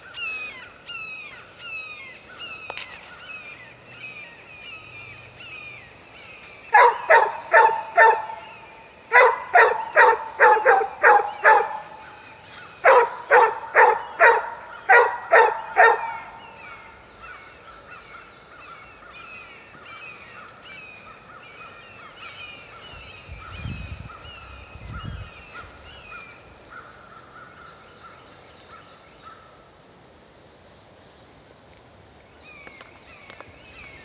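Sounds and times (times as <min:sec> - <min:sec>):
bird calling: 0:00.0 - 0:29.5.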